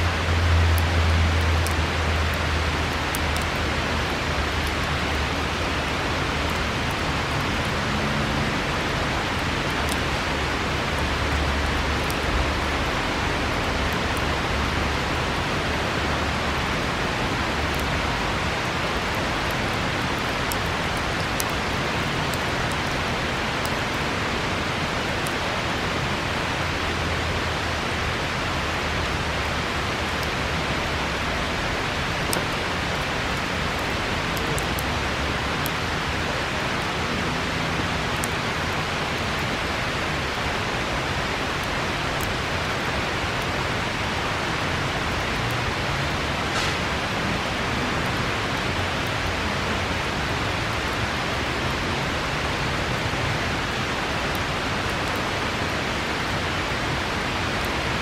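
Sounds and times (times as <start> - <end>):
campfire crackling: 0.0 - 58.0
river rushing: 0.0 - 58.0.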